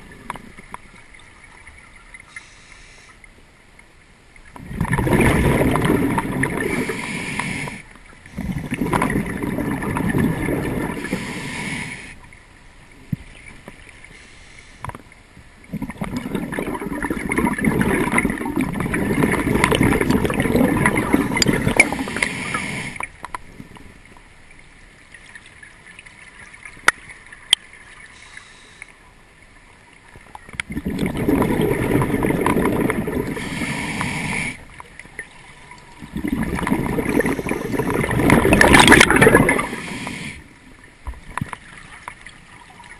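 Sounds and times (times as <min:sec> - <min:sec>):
underwater bubbles gurgling: 0:04.4 - 0:12.4, 0:13.0 - 0:28.1, 0:29.8 - 0:42.9.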